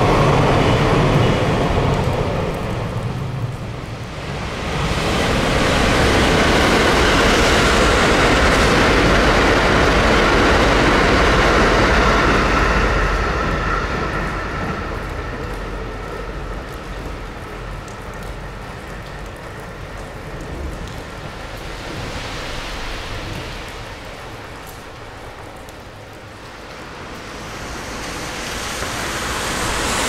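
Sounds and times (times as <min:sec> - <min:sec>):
electric train passing at speed: 0:00.0 - 0:30.0.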